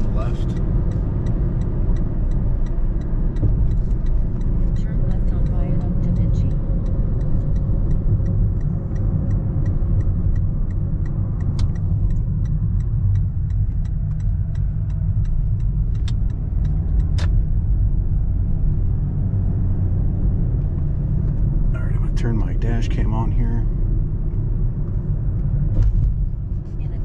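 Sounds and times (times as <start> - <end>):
road and tyre rumble: 0.0 - 27.0
turn signal ticking: 0.0 - 27.0.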